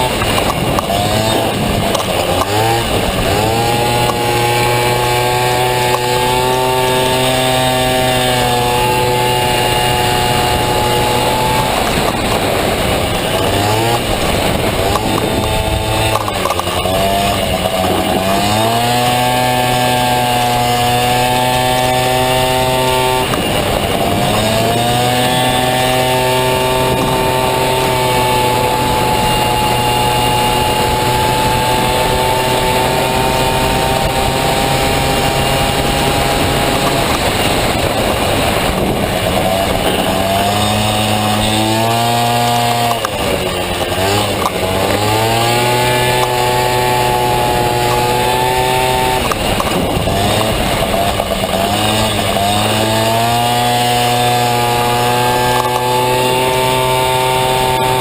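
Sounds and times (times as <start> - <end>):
scooter engine revving high: 0.0 - 58.0.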